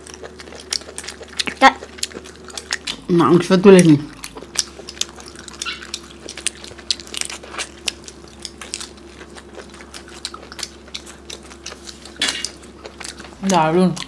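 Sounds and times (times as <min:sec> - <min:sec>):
chewing with wet smacks: 0:00.0 - 0:14.0
faint steady hum: 0:00.0 - 0:14.0.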